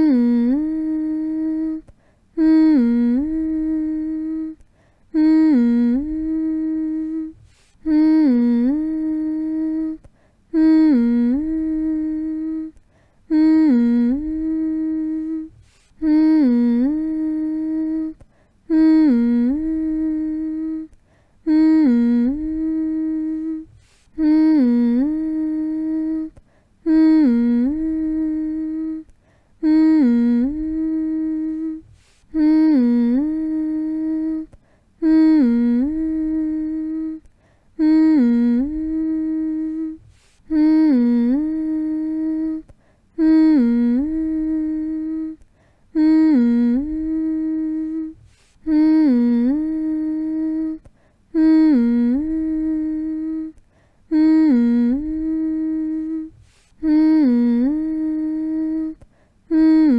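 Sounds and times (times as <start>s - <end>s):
person humming: 0.0s - 59.9s.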